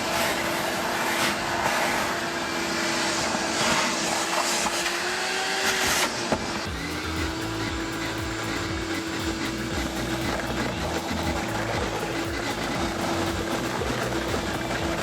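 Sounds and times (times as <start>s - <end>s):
shop vacuum motor whining: 0.0s - 15.0s.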